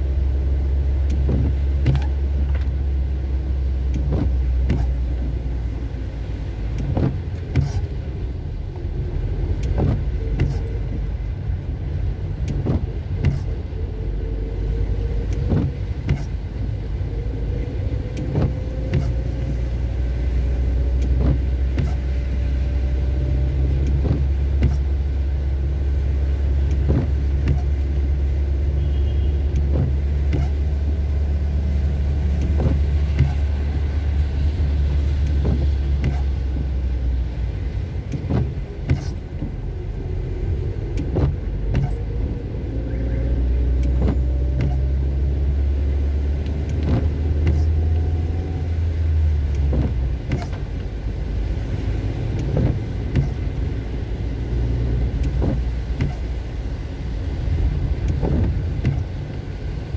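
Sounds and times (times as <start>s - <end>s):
car engine and tyres on wet road: 0.0s - 59.9s
rain ticking on windscreen: 0.0s - 59.9s.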